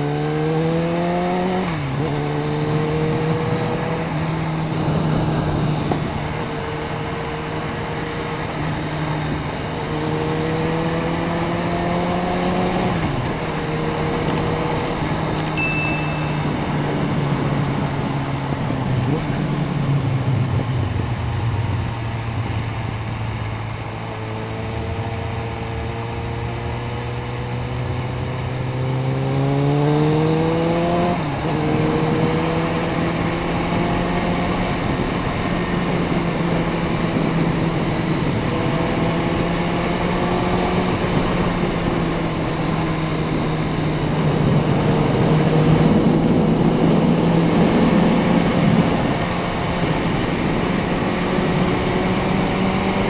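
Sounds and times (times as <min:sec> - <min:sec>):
motorcycle engine accelerating: 0:00.0 - 0:53.0
wind and road noise: 0:00.0 - 0:53.0.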